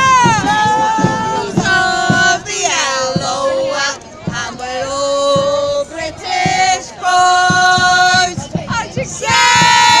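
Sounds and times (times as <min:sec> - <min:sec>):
low drum thuds: 0:00.0 - 0:10.0
voices singing: 0:00.0 - 0:10.0.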